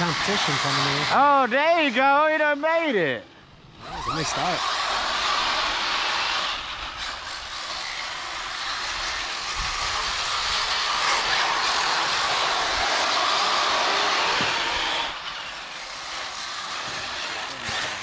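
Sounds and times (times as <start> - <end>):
tyres hissing on dirt: 0.0 - 3.2, 4.2 - 18.0
electric motors whining: 0.0 - 18.0.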